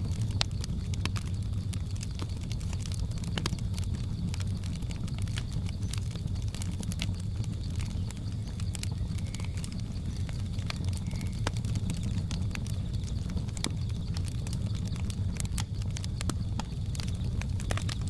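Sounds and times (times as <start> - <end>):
insect drone: 0.0 - 18.0
wood fire crackling: 0.0 - 18.0.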